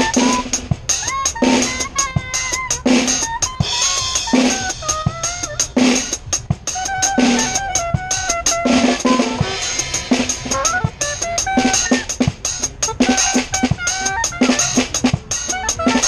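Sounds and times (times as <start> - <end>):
drum kit groove: 0.0 - 16.0
saxophone melody: 0.0 - 16.0.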